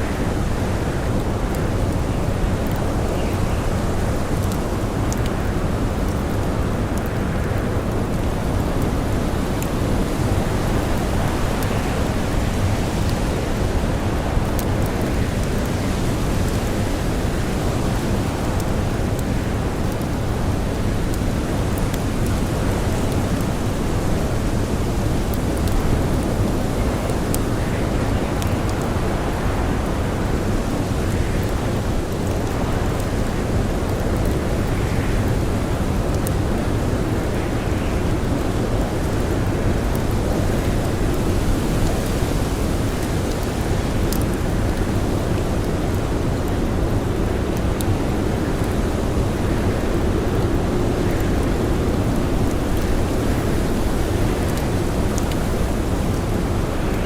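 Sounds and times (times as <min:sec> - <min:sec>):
storm wind with blowing snow: 0:00.0 - 0:57.0
wood fire crackles: 0:00.0 - 0:57.0.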